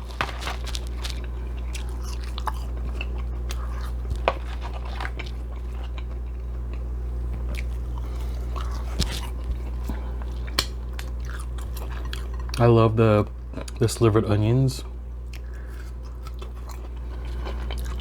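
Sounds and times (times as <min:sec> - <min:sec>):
person chewing food: 0:00.0 - 0:12.6, 0:13.5 - 0:13.8, 0:15.2 - 0:18.0
steady low hum: 0:00.0 - 0:18.0.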